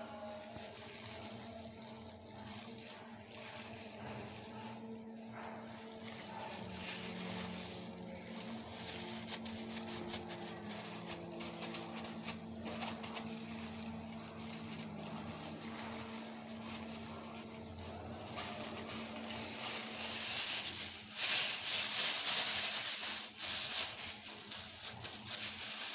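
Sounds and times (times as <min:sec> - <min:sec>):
plastic glove rustling: 0:00.0 - 0:25.9
steady low hum: 0:00.0 - 0:25.9.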